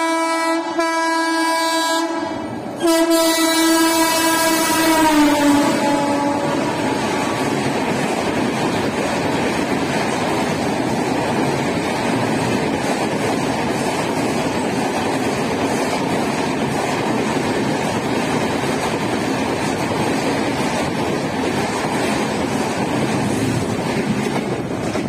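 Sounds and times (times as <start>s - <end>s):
train coaches rushing past: 0.0s - 25.0s.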